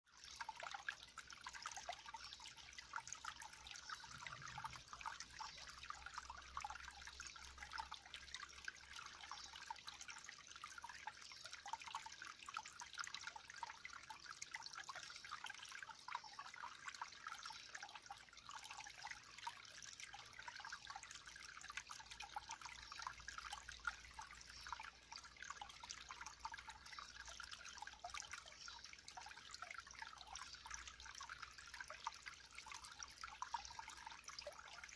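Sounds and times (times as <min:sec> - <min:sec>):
water trickling and dripping: 0:00.1 - 0:34.9.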